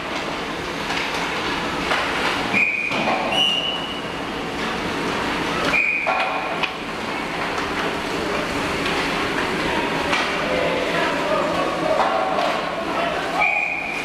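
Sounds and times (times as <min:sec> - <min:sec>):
arena noise: 0:01.9 - 0:14.0.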